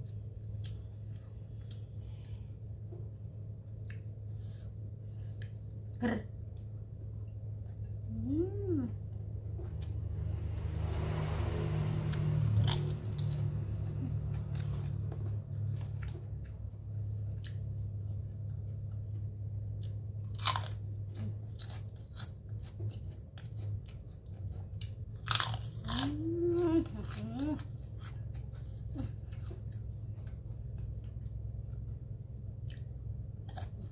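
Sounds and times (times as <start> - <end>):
chewing and crunching food: 0.0 - 8.1, 12.0 - 33.9
steady low hum: 0.0 - 33.9.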